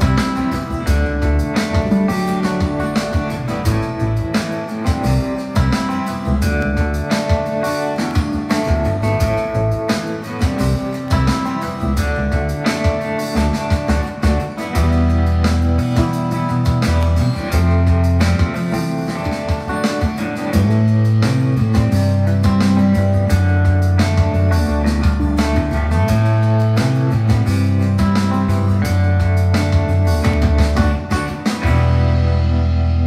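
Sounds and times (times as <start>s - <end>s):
music with guitar and drums: 0.0s - 33.0s.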